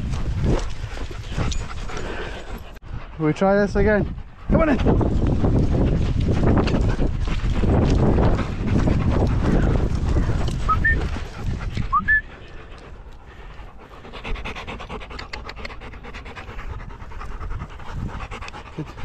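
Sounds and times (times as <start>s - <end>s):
wind on microphone: 0.0s - 12.4s, 16.1s - 19.0s
dogs panting: 0.0s - 19.0s.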